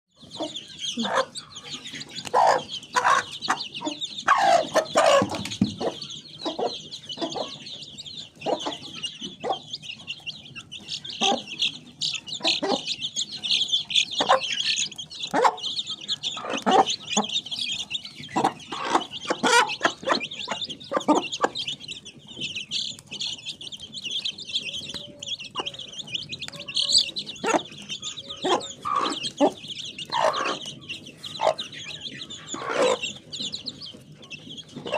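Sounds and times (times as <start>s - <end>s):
chickens clucking: 0.2s - 34.9s
high-pitched chatter: 0.3s - 34.9s.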